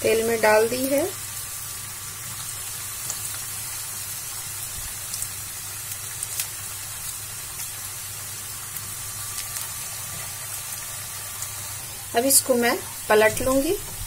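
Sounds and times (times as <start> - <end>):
oil sizzling with crackling pops: 0.0 - 14.0.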